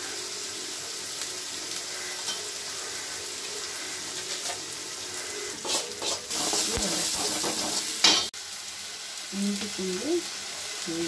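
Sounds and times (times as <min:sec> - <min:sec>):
masala sizzling in hot oil: 0:00.0 - 0:11.0.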